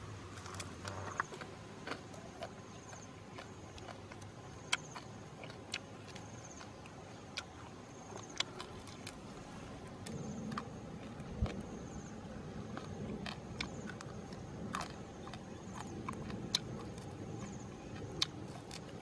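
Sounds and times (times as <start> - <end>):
chewing with clicks and smacks: 0.3 - 19.0.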